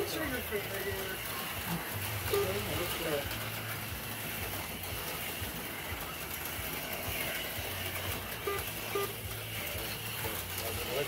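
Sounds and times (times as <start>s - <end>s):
slot cars whirring: 0.0s - 11.0s.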